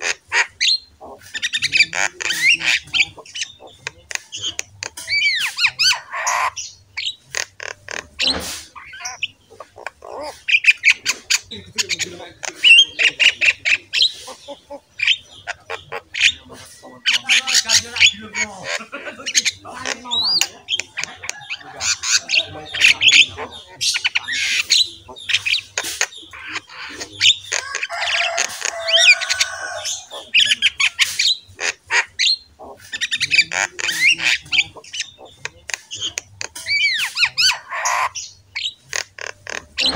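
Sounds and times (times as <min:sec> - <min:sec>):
birds squawking and chirping: 0:00.0 - 0:39.9.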